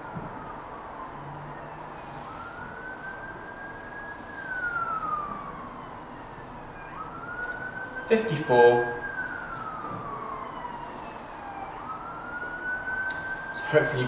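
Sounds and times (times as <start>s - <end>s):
emergency siren wailing: 0.0s - 14.0s.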